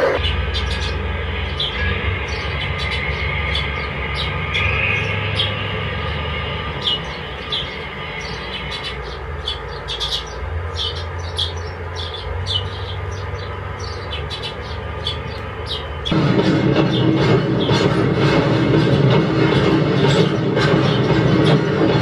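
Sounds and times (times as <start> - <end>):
model train humming: 0.0 - 22.0.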